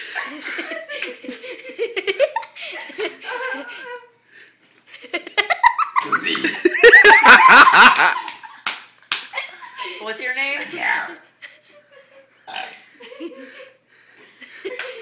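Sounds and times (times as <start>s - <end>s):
young people laughing: 0.0s - 4.2s, 4.9s - 8.7s, 9.3s - 10.1s, 11.2s - 15.0s.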